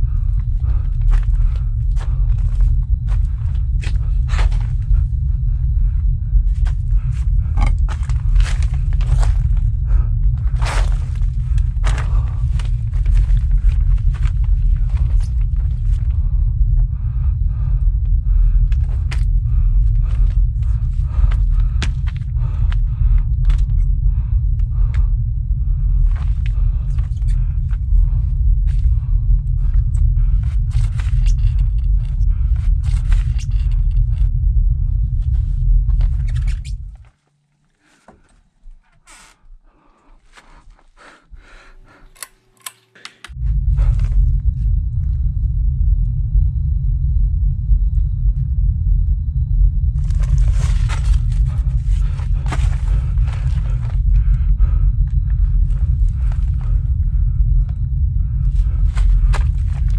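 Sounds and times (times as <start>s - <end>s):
crunching footsteps and scrapes: 0.0s - 16.9s, 17.6s - 25.2s, 25.8s - 44.6s, 50.0s - 59.9s
heavy low rumble: 0.0s - 42.3s, 43.2s - 59.9s.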